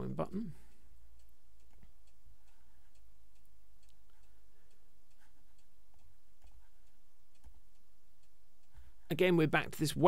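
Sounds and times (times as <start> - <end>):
low room hum: 0.0 - 10.0
faint ticks: 0.4 - 9.2.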